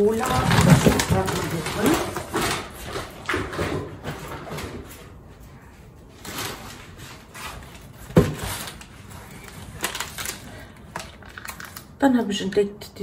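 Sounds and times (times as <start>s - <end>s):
packaging knocks and rustles: 0.0s - 4.9s, 6.2s - 11.9s.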